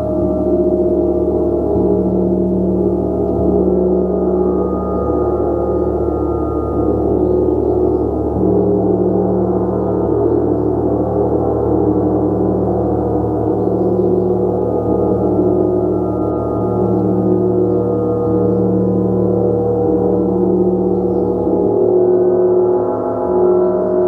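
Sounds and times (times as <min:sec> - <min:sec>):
gong played continuously: 0:00.0 - 0:24.0.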